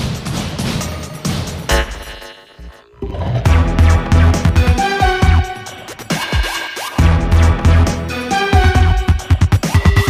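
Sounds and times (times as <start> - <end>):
heavy bass beat: 1.6 - 10.0.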